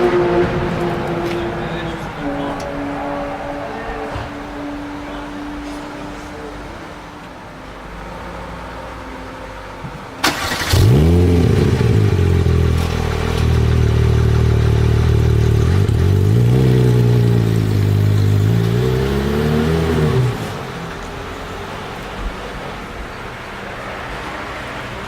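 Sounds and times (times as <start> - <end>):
car engine starting and idling: 0.0 - 25.0.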